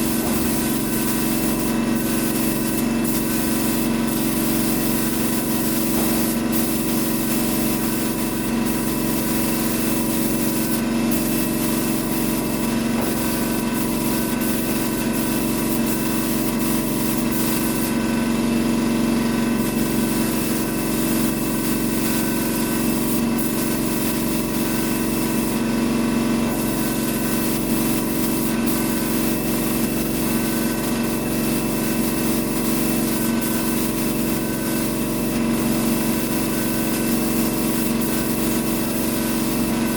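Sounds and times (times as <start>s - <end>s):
paint spray gun hissing: 0.0s - 18.4s, 19.4s - 25.8s, 26.4s - 39.9s
steady mechanical hum: 0.0s - 39.9s.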